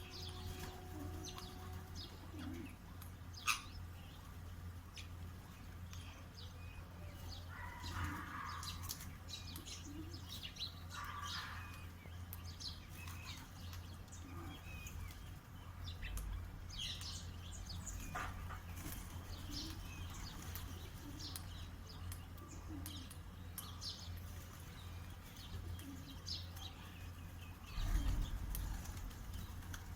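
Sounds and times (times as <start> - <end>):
low steady hum: 0.0 - 29.9
small birds chirping: 0.0 - 29.9.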